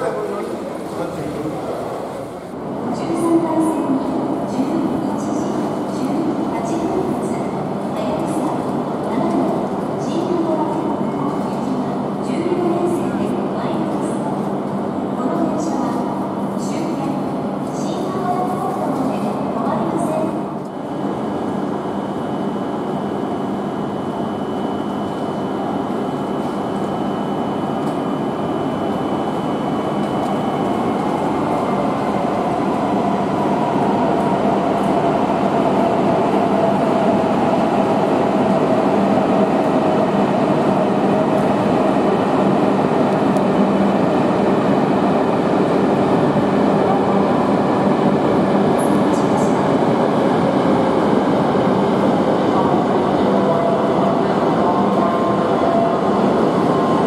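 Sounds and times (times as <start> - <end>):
train rail and running noise: 0.0 - 57.0.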